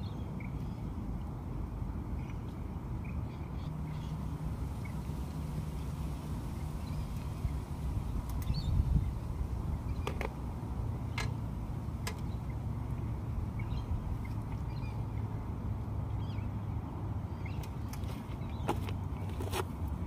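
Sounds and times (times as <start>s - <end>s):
low steady rumble: 0.0s - 17.6s.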